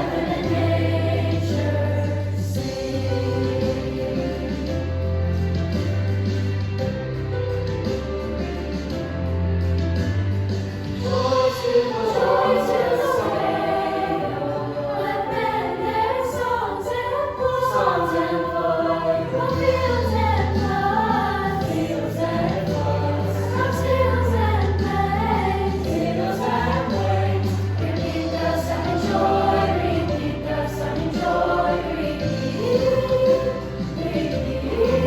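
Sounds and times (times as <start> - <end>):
choir singing: 0.0 - 5.1, 11.0 - 35.0
instrumental accompaniment: 0.0 - 35.0.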